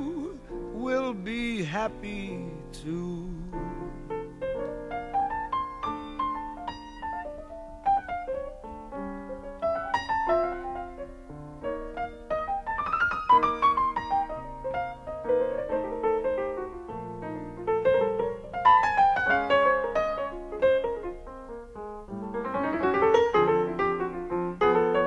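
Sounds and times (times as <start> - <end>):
piano ballad: 0.0 - 25.0.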